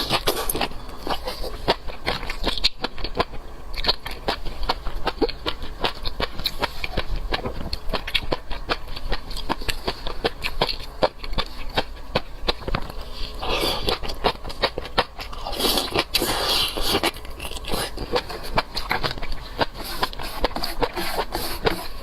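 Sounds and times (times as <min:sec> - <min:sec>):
chewing and mouth smacks: 0:00.0 - 0:22.0
low steady hum: 0:00.0 - 0:22.0.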